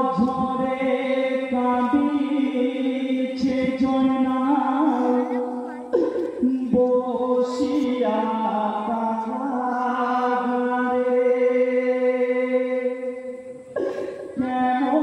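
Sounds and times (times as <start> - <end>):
men singing a mourning chant: 0.0 - 15.0.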